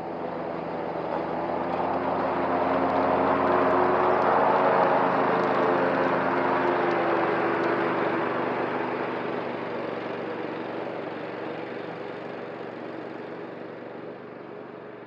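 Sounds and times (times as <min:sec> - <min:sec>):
riding mower engine running: 0:00.0 - 0:15.0.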